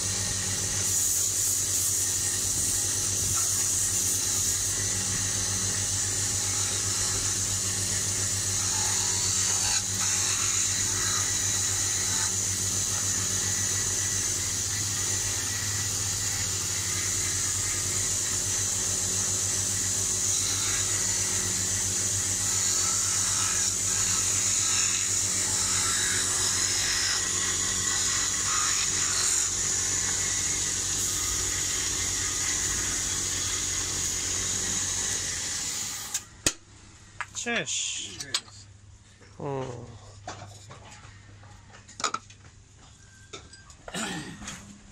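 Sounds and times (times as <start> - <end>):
wood lathe humming: 0.0 - 36.2
tool hissing on spinning wood: 0.0 - 36.3
tool scraping wood: 0.0 - 36.3.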